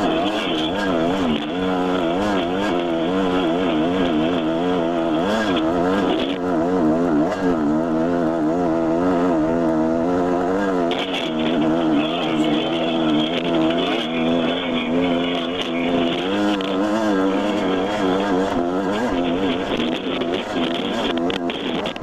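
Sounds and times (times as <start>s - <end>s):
dirt bike engine: 0.0s - 22.0s.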